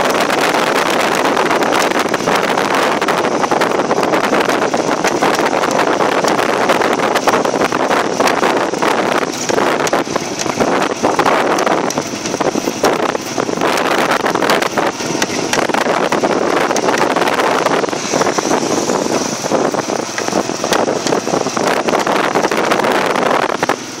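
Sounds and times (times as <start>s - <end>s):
wind buffeting microphone: 0.0s - 24.0s
small knocks and rattles: 3.0s - 22.9s.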